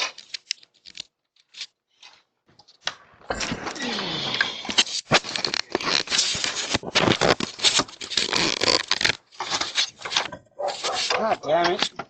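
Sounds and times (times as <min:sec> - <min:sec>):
rustling and scraping: 0:00.0 - 0:12.0.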